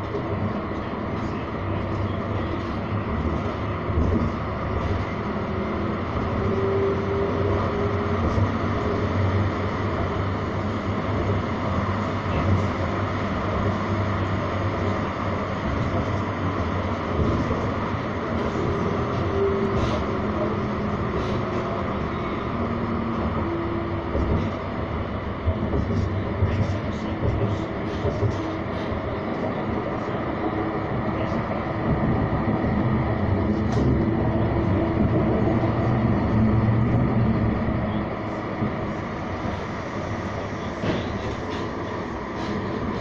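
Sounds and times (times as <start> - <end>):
tram wheels rumbling on rail: 0.0 - 43.0.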